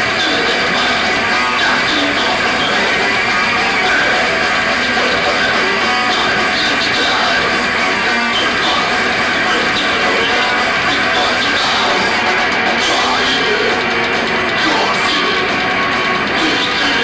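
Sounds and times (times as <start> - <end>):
bass guitar: 0.0 - 17.0
distorted electric guitars: 0.0 - 17.0
drums: 0.0 - 17.0.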